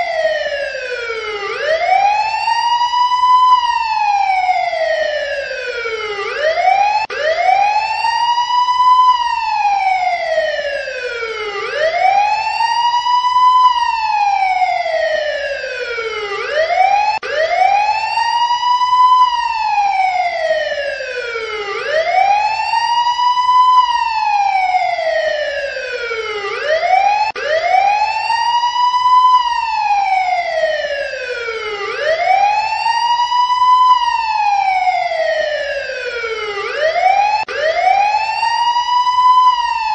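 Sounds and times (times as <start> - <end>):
emergency siren wailing: 0.0 - 39.9.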